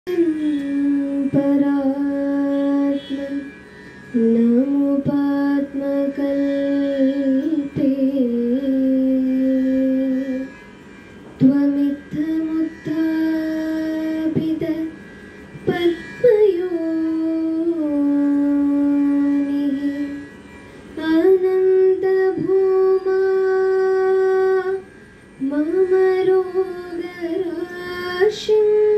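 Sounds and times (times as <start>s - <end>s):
woman singing unaccompanied: 0.1s - 10.6s, 11.4s - 15.0s, 15.6s - 20.4s, 21.0s - 28.9s.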